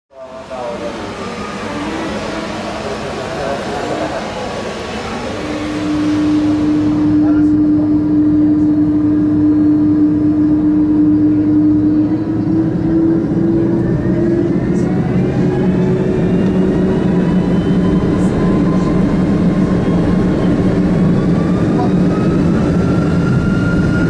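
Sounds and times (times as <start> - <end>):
jet engines spooling up: 0.2 - 24.0.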